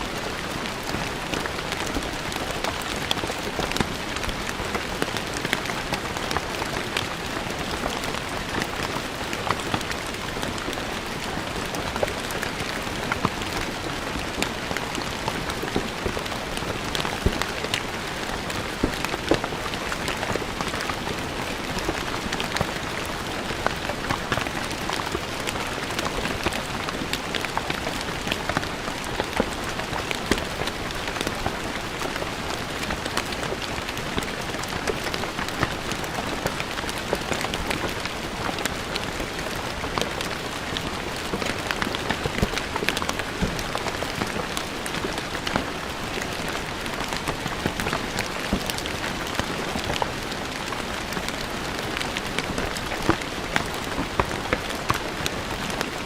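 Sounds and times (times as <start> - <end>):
rain falling on stone: 0.0 - 56.0.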